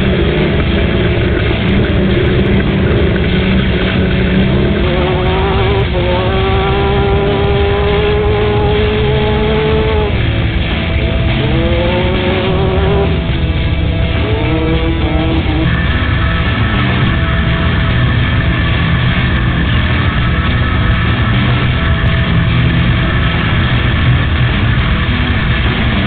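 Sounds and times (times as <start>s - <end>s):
race vehicle engine running hard: 0.0s - 26.0s.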